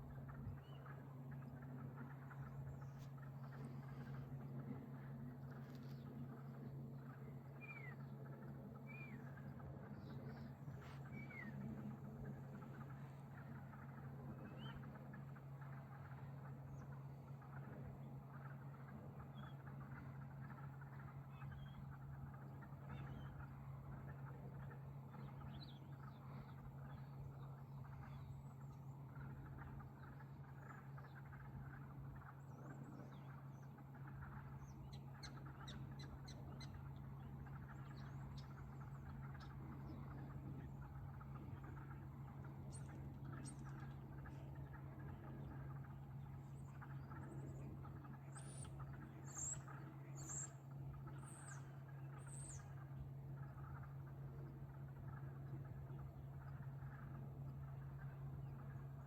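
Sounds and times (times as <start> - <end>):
birds chirping: 0.0 - 59.0
steady low hum: 0.0 - 59.0.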